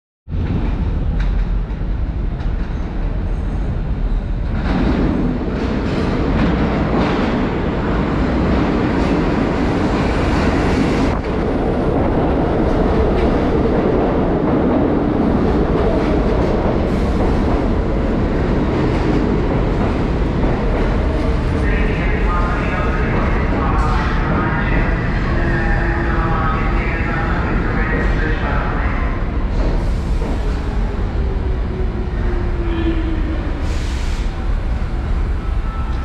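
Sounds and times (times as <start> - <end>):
subway train wheels rumbling: 0.3 - 36.0.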